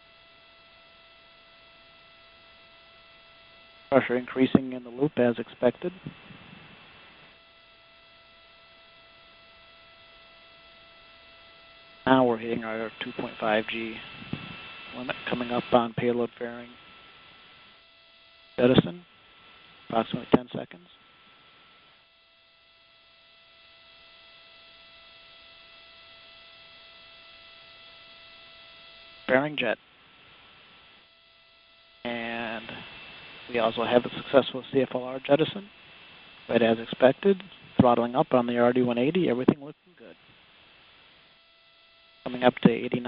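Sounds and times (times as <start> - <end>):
electronic hum: 0.0 - 43.0
faint audio line hiss: 0.0 - 43.0.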